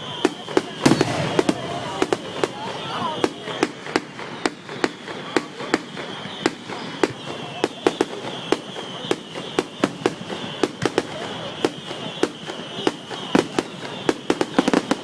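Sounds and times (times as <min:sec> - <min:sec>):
firecrackers popping: 0:00.0 - 0:15.0.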